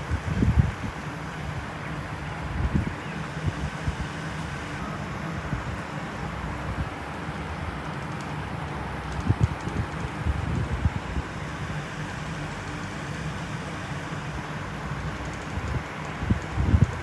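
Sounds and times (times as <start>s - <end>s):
wind gusts buffeting microphone: 0.0s - 13.5s, 14.4s - 17.0s.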